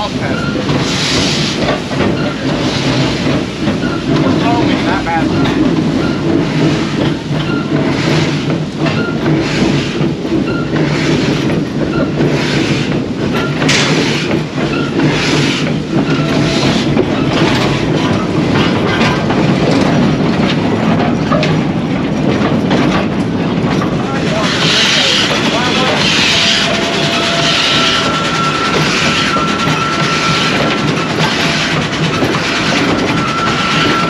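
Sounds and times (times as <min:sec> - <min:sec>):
steam locomotive chuffing: 0:00.0 - 0:34.0.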